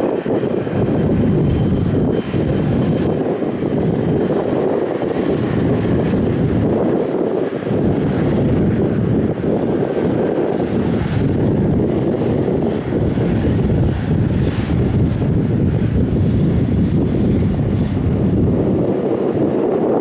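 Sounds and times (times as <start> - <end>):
airliner engine roar: 0.0 - 20.0
wind buffeting microphone: 0.0 - 20.0.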